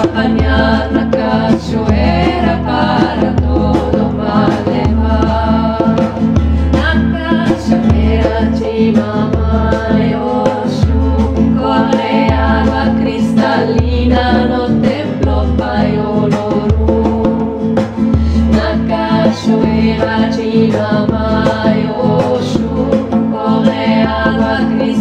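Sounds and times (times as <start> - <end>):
voices singing: 0.0 - 25.0.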